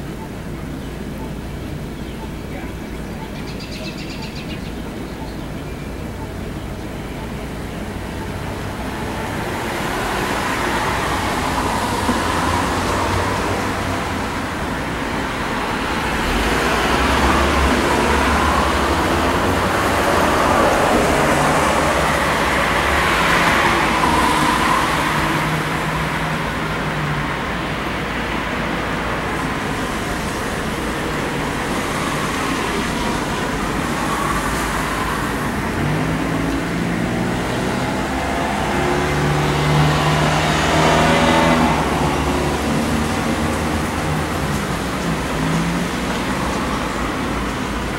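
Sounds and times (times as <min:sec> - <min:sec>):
moving vehicle road noise: 0:00.0 - 0:47.9.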